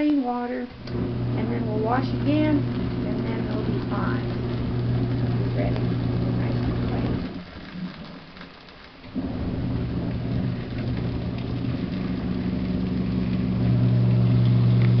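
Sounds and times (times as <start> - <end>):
washing machine motor hum: 0.0 - 8.4, 9.0 - 15.0
water churning: 0.0 - 15.0.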